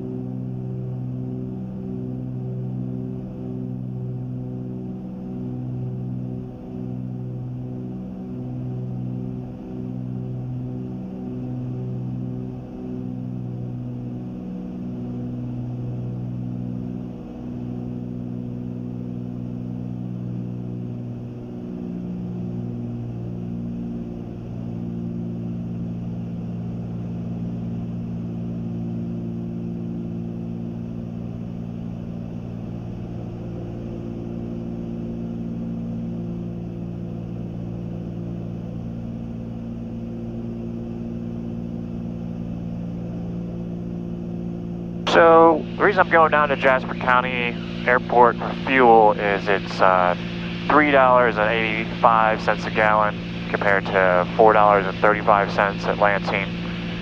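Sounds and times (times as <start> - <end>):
airplane engines droning in cabin: 0.0 - 57.0.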